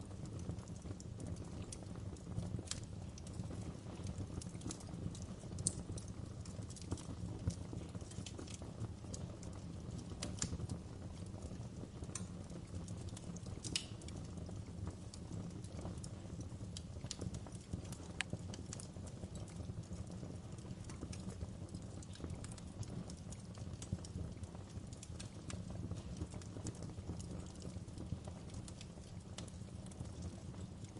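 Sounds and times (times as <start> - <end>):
fire flames rumbling: 0.0 - 30.9
logs crackling and popping: 0.0 - 30.9.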